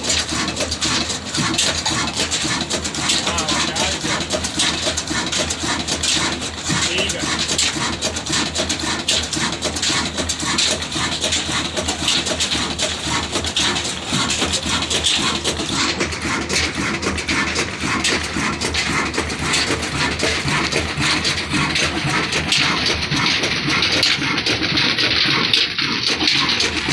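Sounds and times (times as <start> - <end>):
diesel engine clattering: 0.0 - 26.9.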